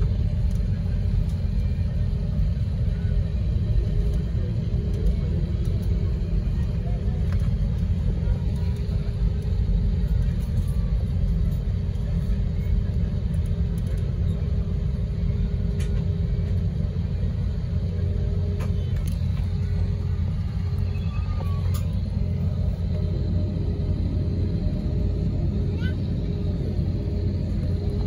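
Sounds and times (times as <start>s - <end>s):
airliner cabin rumble while taxiing: 0.0s - 28.0s.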